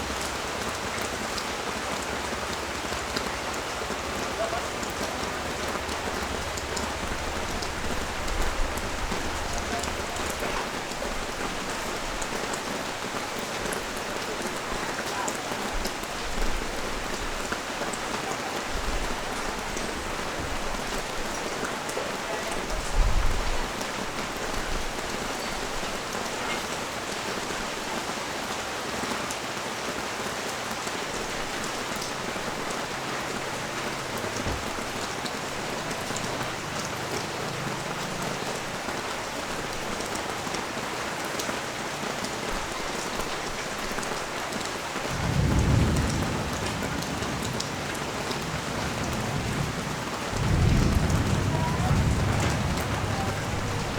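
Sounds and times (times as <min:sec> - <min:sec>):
rain hissing on street: 0:00.0 - 0:53.9.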